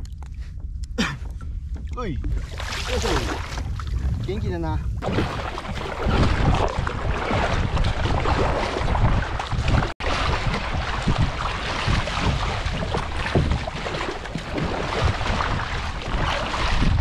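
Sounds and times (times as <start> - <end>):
paddle dipping and splashing: 0.0 - 4.3, 5.0 - 17.0
water slapping a hull: 0.0 - 17.0
wind buffeting microphone: 0.6 - 17.0.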